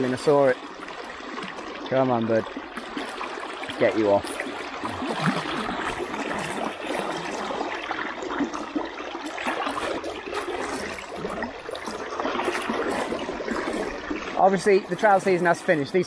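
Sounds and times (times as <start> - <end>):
river water rushing: 0.0 - 16.0
water splashing around legs: 0.0 - 16.0.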